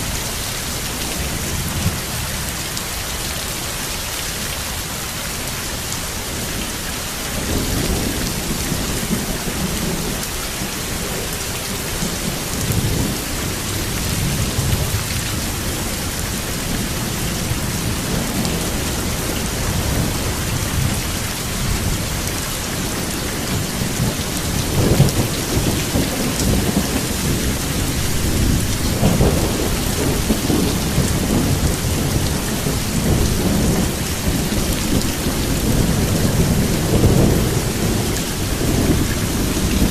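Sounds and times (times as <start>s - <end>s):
steady rain falling: 0.0s - 39.9s
thunder rumbling: 7.3s - 39.9s.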